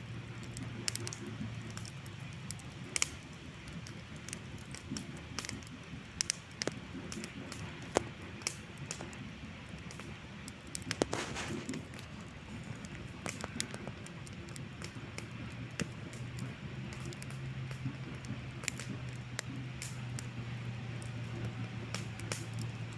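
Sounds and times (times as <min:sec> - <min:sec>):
campfire crackling and popping: 0:00.0 - 0:22.9
steady low hum: 0:00.0 - 0:22.9.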